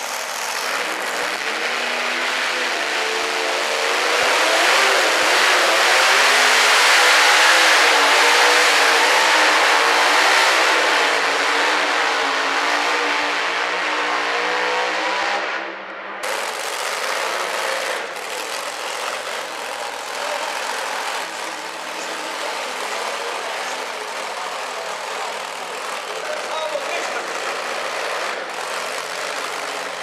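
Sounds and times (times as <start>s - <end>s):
supercharged engine at full throttle: 0.0s - 30.0s.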